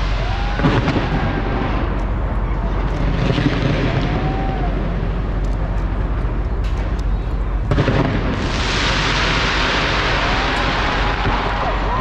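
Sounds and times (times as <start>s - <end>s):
fireworks booming: 0.0s - 12.0s
fireworks crackling: 0.0s - 12.0s.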